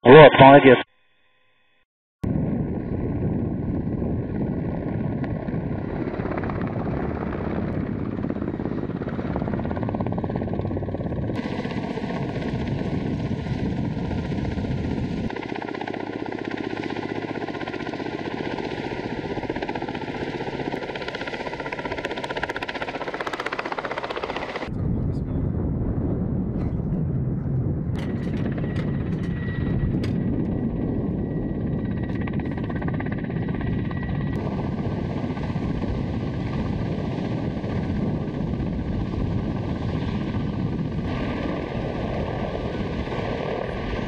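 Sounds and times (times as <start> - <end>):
helicopter rotor chop: 2.3 - 25.7, 27.9 - 44.0.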